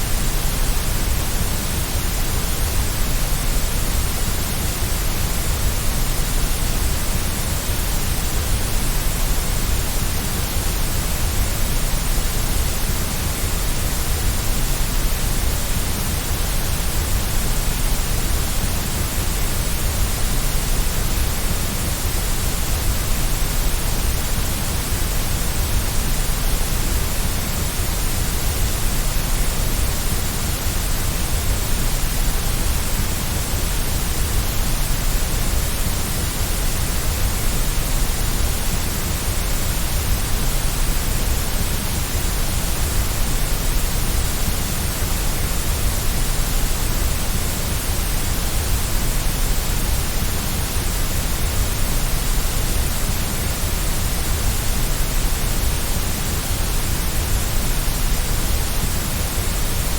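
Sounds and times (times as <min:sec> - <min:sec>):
white noise hiss with low rumble: 0:00.0 - 0:59.9.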